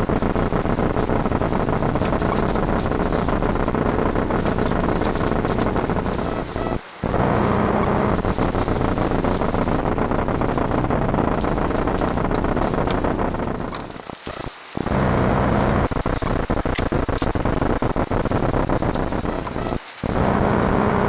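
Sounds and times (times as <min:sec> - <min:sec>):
crackling microphone static: 0:00.0 - 0:21.0.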